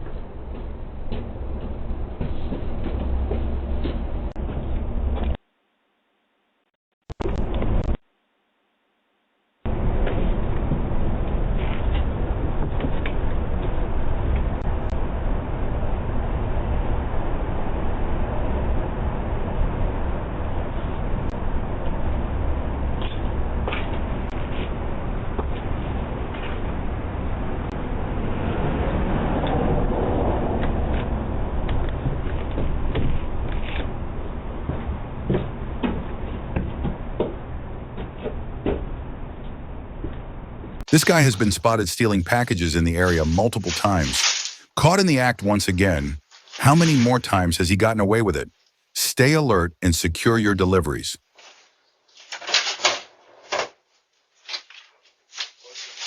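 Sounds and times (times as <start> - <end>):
steady background noise: 9.3 - 56.0.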